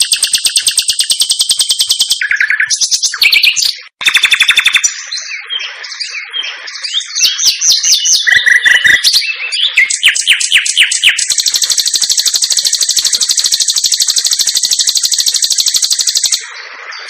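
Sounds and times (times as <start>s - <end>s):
songbird whistling and trilling: 0.0s - 16.6s.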